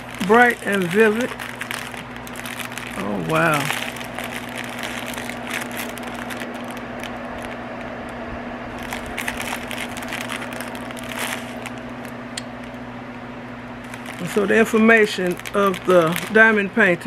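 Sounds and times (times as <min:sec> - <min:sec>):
packaging crinkling: 0:00.0 - 0:08.1, 0:08.8 - 0:12.9, 0:13.7 - 0:17.0
steady low hum: 0:00.0 - 0:17.0.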